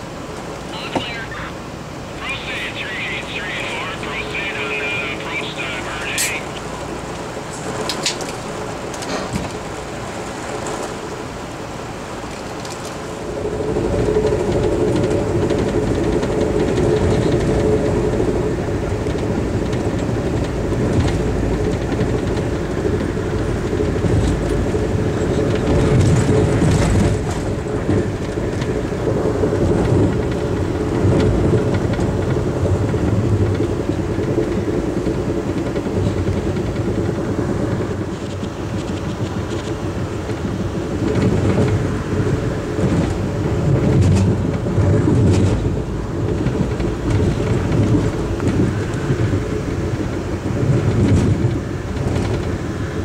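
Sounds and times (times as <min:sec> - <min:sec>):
wheels rumbling on rail: 0:00.0 - 0:53.0.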